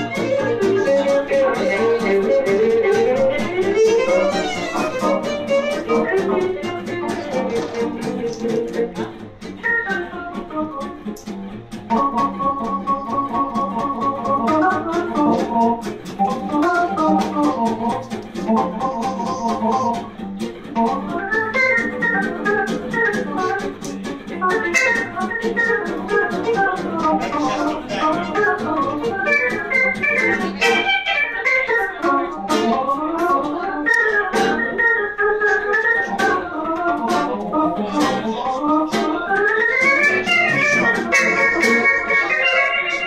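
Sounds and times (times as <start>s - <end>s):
accordion: 0.0s - 43.0s
small live band playing: 0.0s - 43.0s.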